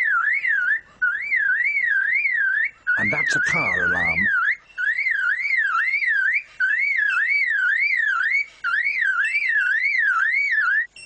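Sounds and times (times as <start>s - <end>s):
lyrebird whistling like car alarm: 0.0s - 11.0s.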